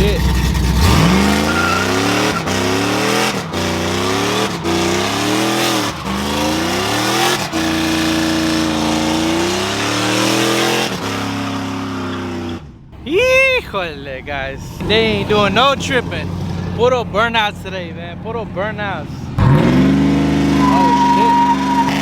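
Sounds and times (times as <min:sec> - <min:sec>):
tires spinning on pavement: 0:00.0 - 0:13.0, 0:14.5 - 0:22.0
truck engine revving: 0:00.0 - 0:13.1, 0:13.8 - 0:22.0.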